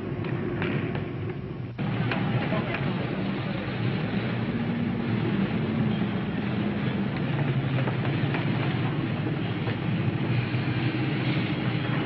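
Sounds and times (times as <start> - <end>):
low drawn-out hum: 0.0 - 12.0
railway and street traffic rumble: 0.0 - 12.0.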